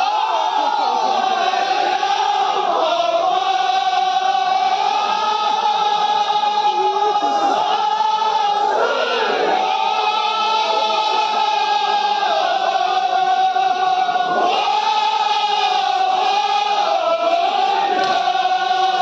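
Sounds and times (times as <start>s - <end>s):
crowd of men chanting in unison: 0.0s - 19.0s.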